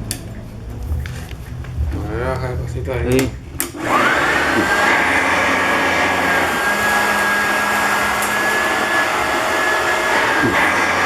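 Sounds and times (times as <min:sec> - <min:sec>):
rush of airflow: 0:00.0 - 0:11.0
vacuum cleaner motor whine: 0:00.0 - 0:11.0.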